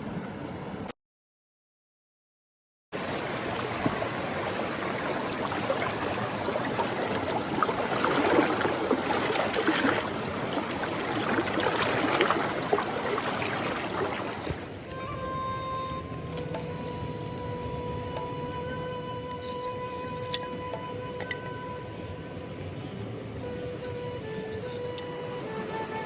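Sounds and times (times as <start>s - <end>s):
rushing trickling water: 3.0s - 26.0s.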